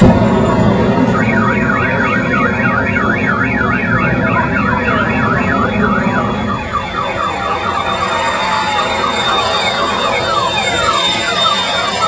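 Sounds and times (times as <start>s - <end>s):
loud low rumble: 0.0s - 11.6s
police siren yelping: 0.0s - 12.0s.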